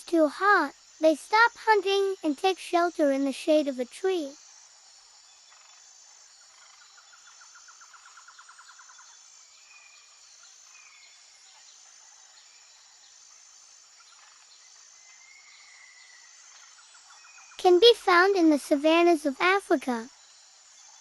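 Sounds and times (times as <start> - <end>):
steady high-pitched hiss: 0.0 - 21.0.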